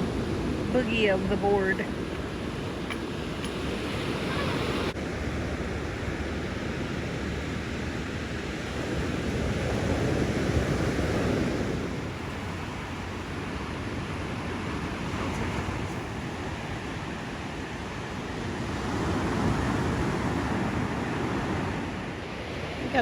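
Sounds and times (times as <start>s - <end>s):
ocean surf breaking: 0.0s - 23.0s
wind rumbling on microphone: 0.0s - 23.0s.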